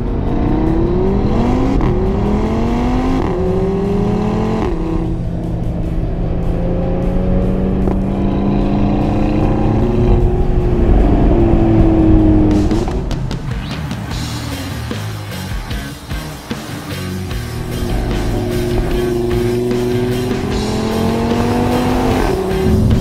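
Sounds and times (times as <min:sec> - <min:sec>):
car engine at full throttle: 0:00.0 - 0:23.0.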